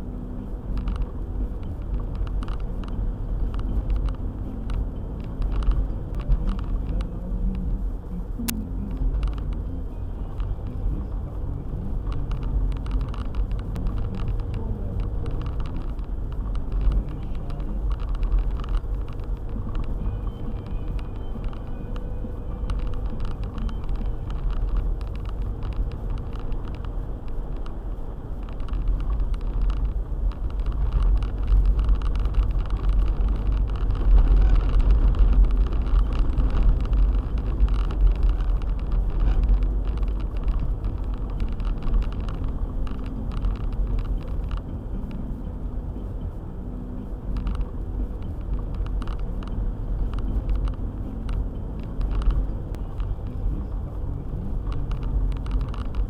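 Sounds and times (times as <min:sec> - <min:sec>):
car driving on snowy road: 0:00.0 - 0:56.0
faint ticks: 0:00.2 - 0:56.0.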